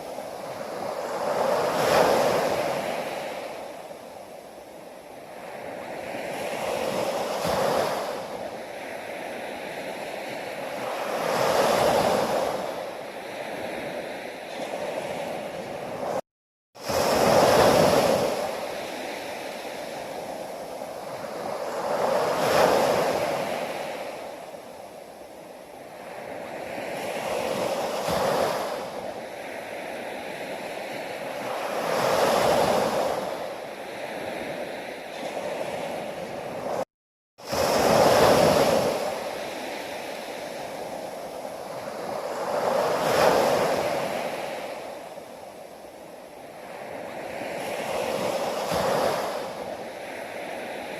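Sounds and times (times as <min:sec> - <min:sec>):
ocean waves breaking on shore: 0:00.0 - 0:16.2, 0:16.8 - 0:50.9.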